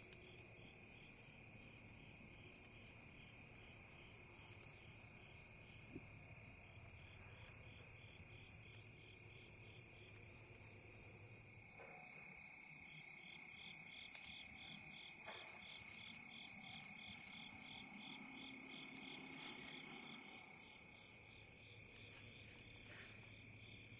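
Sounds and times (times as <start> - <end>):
insects chorus pulsing: 0.1 - 23.9.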